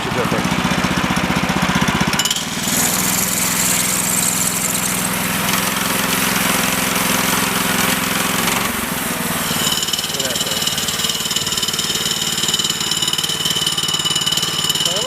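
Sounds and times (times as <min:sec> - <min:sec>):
small gasoline engine running: 0:00.0 - 0:15.0
saw blade turning: 0:02.3 - 0:15.0.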